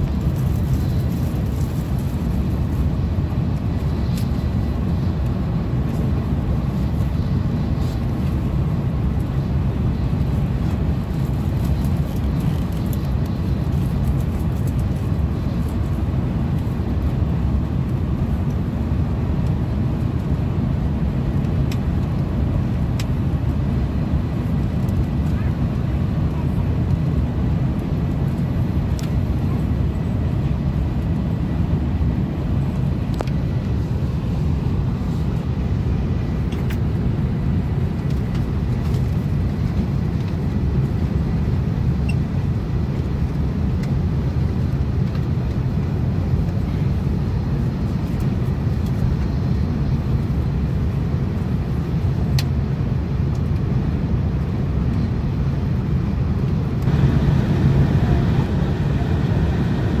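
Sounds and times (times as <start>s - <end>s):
train rumbling inside carriage: 0.0s - 60.0s.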